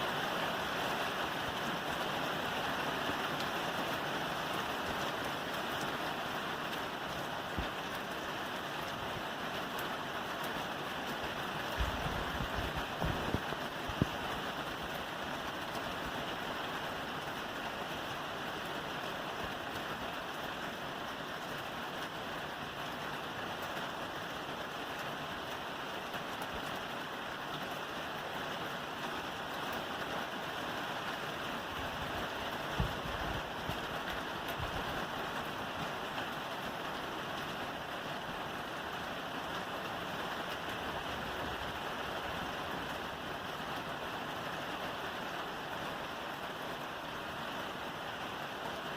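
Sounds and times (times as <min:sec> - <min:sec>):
rain falling on a roof: 0:00.0 - 0:48.9.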